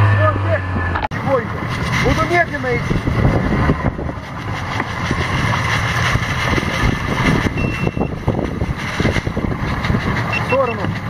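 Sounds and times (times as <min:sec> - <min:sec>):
outboard motor running: 0:00.0 - 0:11.0
wind noise: 0:00.7 - 0:11.0.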